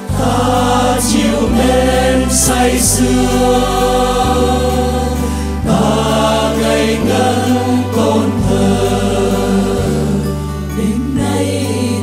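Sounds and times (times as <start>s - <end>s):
choir singing: 0.0s - 12.0s
instrumental accompaniment: 0.0s - 12.0s.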